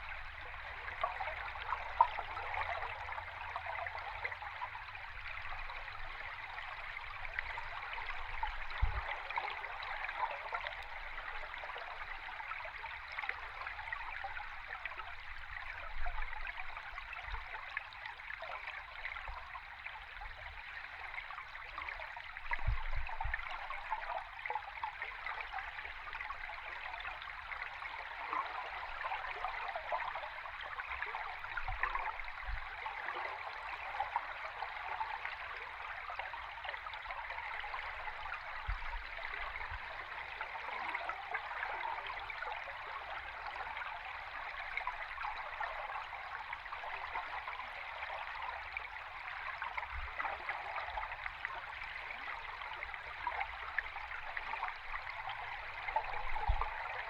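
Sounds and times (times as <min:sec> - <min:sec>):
underwater rush of flowing water: 0:00.0 - 0:57.0.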